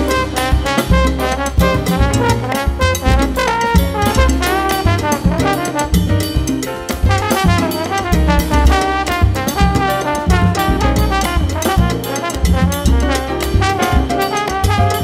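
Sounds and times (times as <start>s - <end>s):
big band playing mambo: 0.0s - 15.0s.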